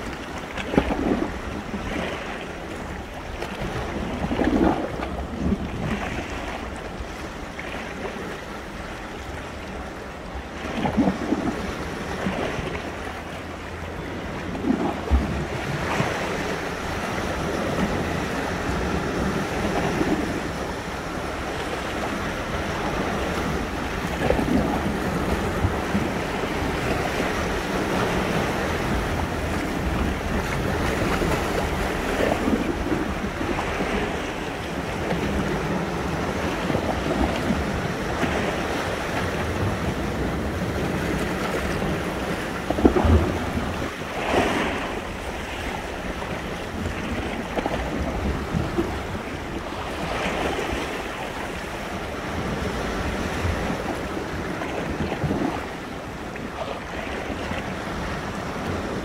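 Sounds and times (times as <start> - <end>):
sea surf washing in: 0.0 - 59.0
wind rumbling on microphone: 0.0 - 59.0.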